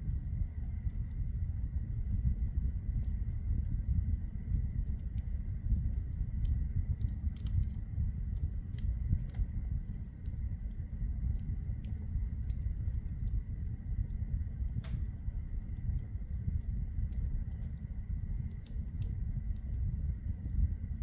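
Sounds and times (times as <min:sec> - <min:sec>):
flames rumbling: 0:00.0 - 0:21.0
logs crackling and popping: 0:00.0 - 0:21.0.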